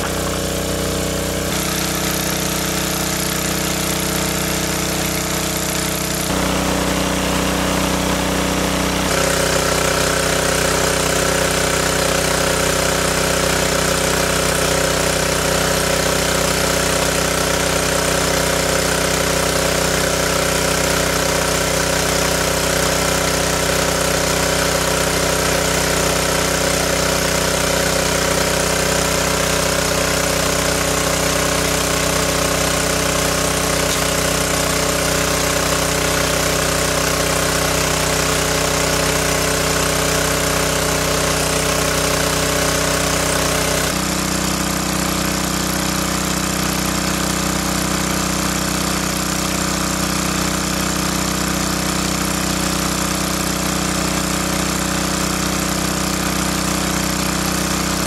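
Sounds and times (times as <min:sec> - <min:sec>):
engine-driven water pump running: 0:00.0 - 0:58.0.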